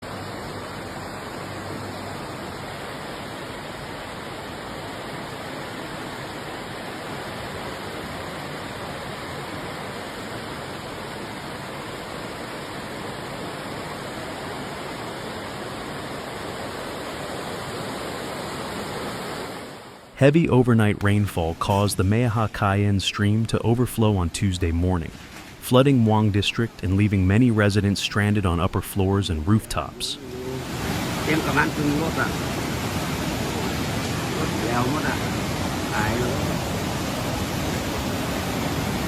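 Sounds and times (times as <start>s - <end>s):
fast-flowing water rushing: 0.0s - 20.1s, 26.0s - 39.0s.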